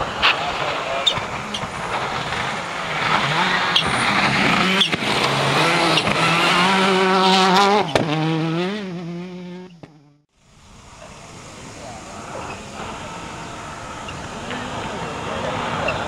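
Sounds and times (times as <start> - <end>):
rally car engine revving: 0.0 - 10.2, 10.8 - 16.0.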